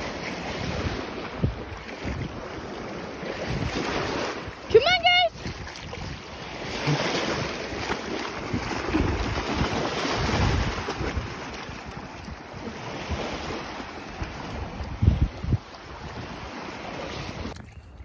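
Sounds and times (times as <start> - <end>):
small waves washing ashore: 0.0 - 17.9
wind gusts on microphone: 0.0 - 18.0.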